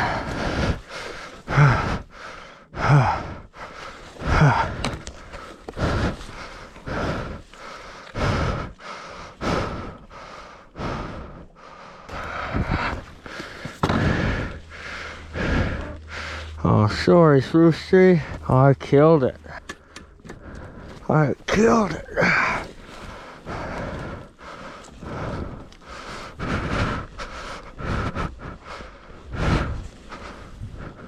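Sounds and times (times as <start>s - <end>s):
person breathing heavily: 0.0s - 31.0s.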